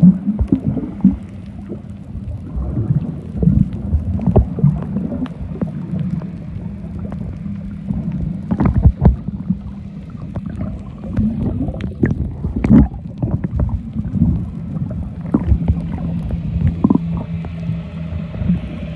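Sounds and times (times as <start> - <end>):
dull underwater thuds and gurgles: 0.0 - 18.9
underwater hum and rumble: 0.0 - 18.9.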